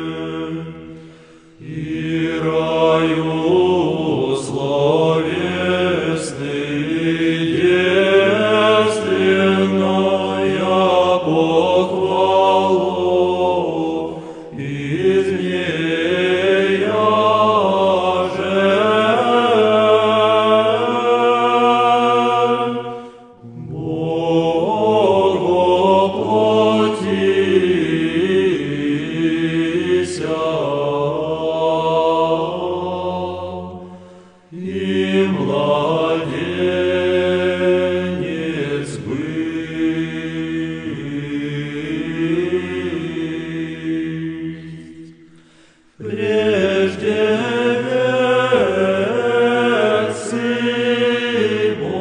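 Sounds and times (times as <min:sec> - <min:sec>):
male choir chanting a cappella: 0:00.0 - 0:52.0.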